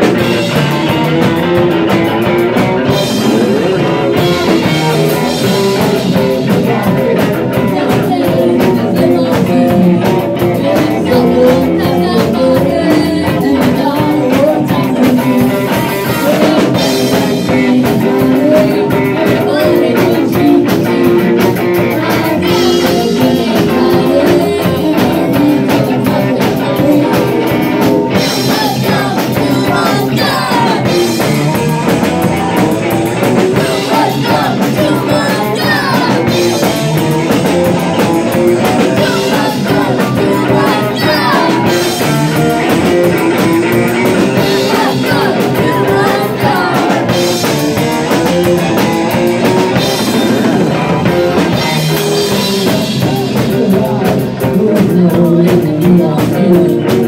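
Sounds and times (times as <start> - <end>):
punk rock band playing: 0.0 - 57.0
sung vocals: 0.0 - 57.0.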